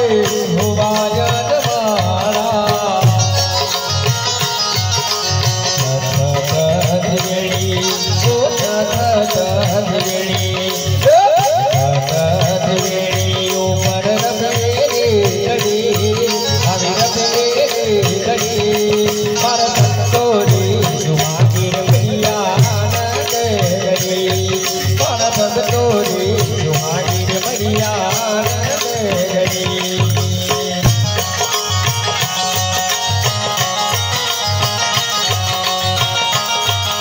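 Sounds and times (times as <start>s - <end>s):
harmonium: 0.0s - 37.0s
man singing: 0.0s - 37.0s
tabla playing: 0.0s - 37.0s.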